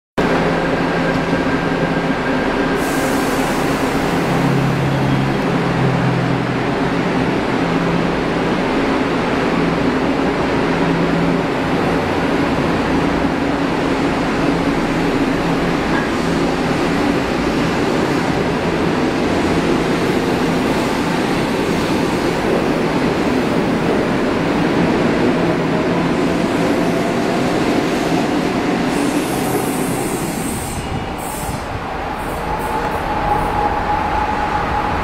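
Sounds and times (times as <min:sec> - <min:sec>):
wheels rumbling on rail: 0:00.2 - 0:35.0.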